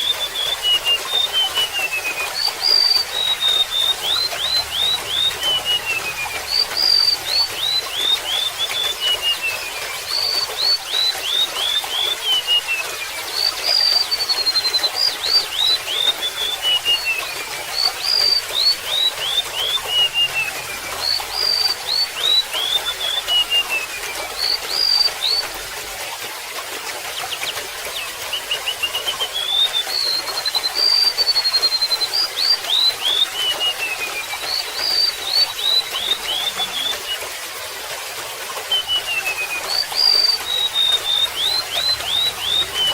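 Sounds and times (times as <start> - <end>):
bird singing high whistled notes: 0.0 - 25.5, 27.4 - 37.2, 38.7 - 42.9
trickle of running water: 0.0 - 42.9.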